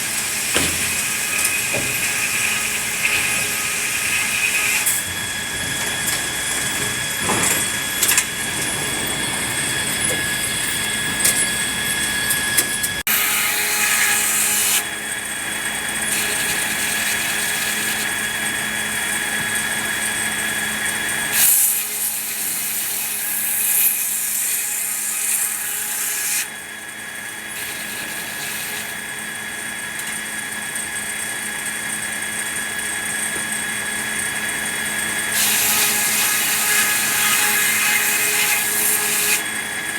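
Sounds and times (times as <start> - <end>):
sawmill machinery sawing: 0.0 - 39.9.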